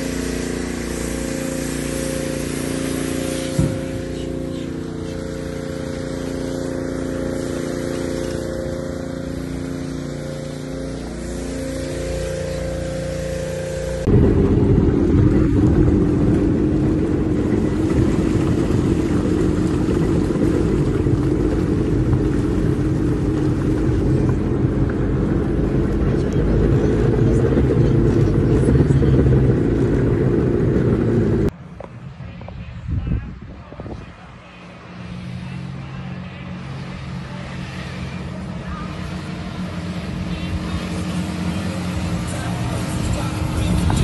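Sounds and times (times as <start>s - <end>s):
outboard motor running: 0.0s - 31.5s, 35.0s - 44.0s
water and wind hiss: 0.0s - 44.0s.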